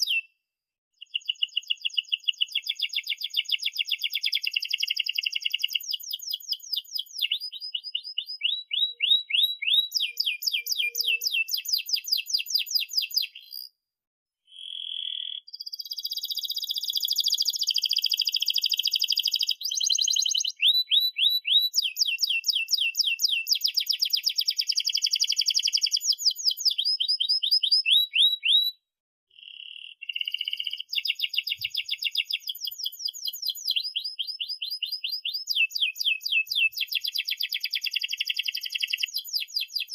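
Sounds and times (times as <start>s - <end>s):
canary singing: 0.0s - 0.3s, 1.0s - 13.7s, 14.5s - 28.8s, 29.4s - 39.9s.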